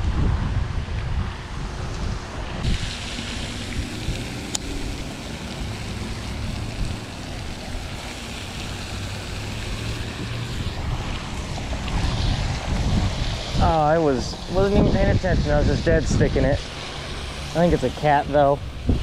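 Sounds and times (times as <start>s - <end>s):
wind buffeting microphone: 0.0s - 19.0s
fountain spray splashing on water: 1.7s - 19.0s.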